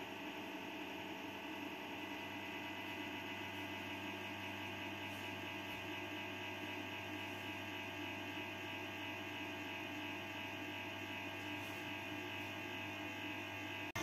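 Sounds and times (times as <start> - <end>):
inverter electrical hum: 0.0 - 14.0.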